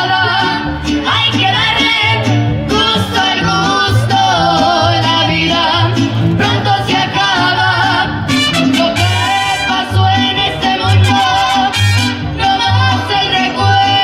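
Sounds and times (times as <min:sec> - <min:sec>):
bass line: 0:00.0 - 0:14.0
strummed guitars: 0:00.0 - 0:14.0
women singing with vibrato: 0:00.0 - 0:14.0.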